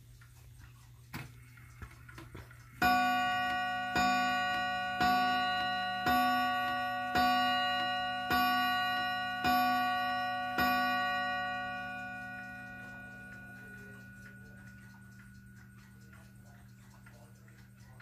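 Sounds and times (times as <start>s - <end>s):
wall clock striking: 1.2s - 18.0s.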